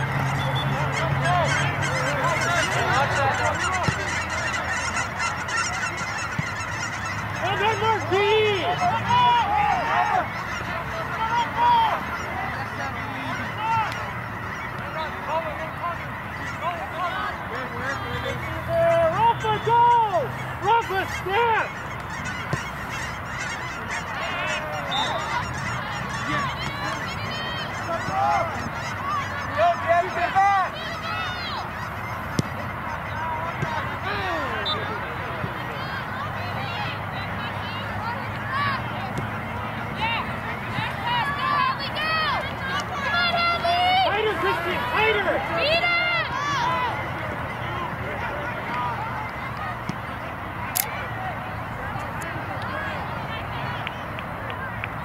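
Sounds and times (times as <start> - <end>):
geese honking: 0.0 - 52.9
flock of birds calling: 0.0 - 55.0.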